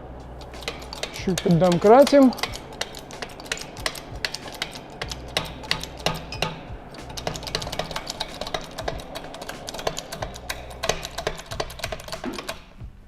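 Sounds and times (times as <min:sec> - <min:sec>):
background music with bass: 0:00.0 - 0:13.0
rapid clicking from suspension work: 0:00.2 - 0:12.8.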